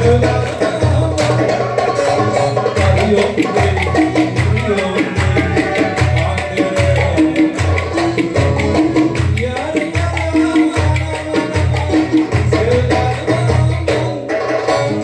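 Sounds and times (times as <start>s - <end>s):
heavy drum beat: 0.0s - 15.0s.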